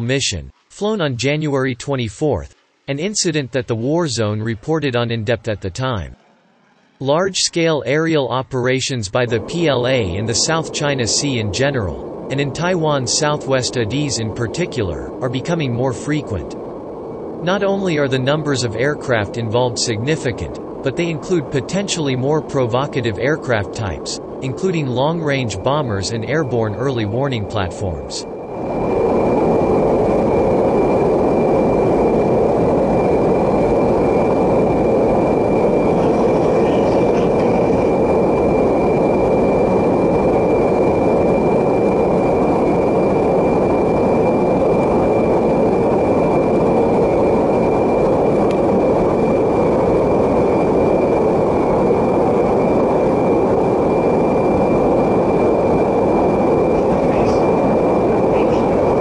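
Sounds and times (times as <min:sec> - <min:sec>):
jet engine and airflow drone: 0:00.0 - 0:59.0
thin steady whine: 0:00.0 - 0:59.0.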